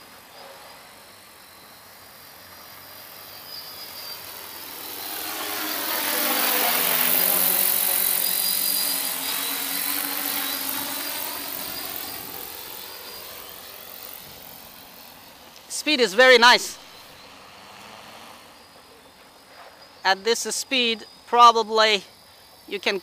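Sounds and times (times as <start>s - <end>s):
drone propellers flying past: 0.0s - 20.0s.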